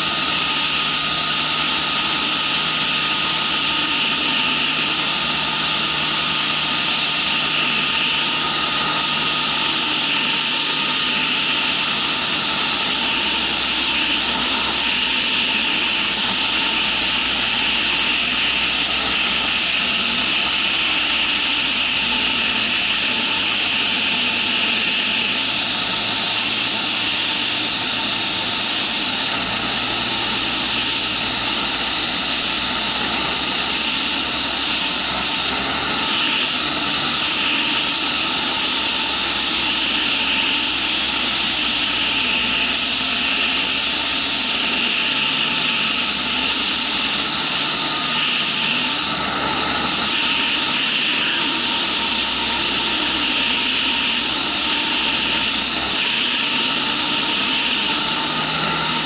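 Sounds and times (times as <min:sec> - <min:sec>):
aircraft engine running: 0:00.0 - 0:59.0
loud rush of air: 0:00.0 - 0:59.0.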